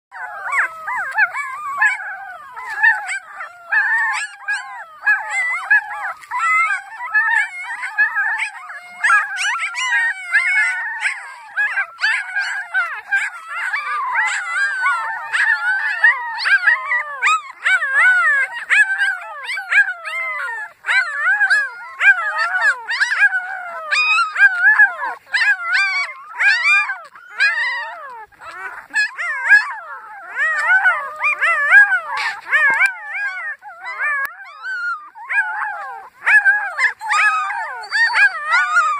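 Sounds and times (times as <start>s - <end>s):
puppies howling and whining: 0.1s - 38.9s.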